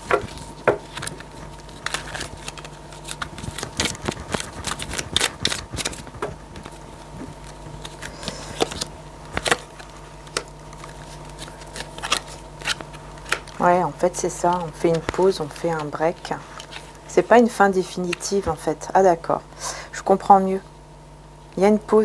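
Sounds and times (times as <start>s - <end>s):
cards being shuffled: 0.0s - 18.6s
steady low hum: 0.0s - 22.0s.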